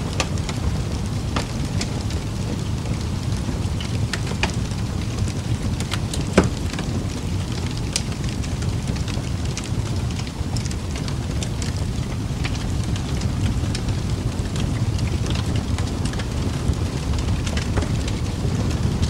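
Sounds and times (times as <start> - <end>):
low ambient noise: 0.0 - 19.0
soft clicks and crackles: 0.1 - 19.0.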